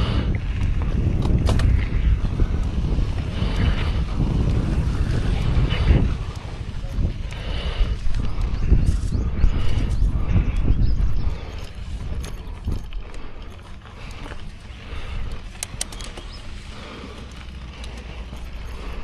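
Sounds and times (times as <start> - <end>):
bicycle tyres crunching gravel: 0.0 - 19.0
wind rumble on microphone: 0.0 - 19.0
bike parts rattling: 0.5 - 19.0.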